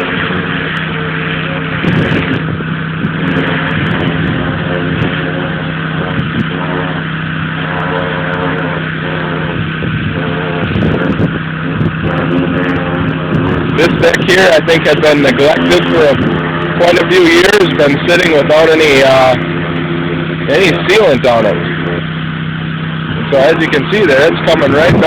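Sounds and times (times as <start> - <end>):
pressure washer engine hum: 0.0 - 25.0
water jet hissing: 0.0 - 25.0.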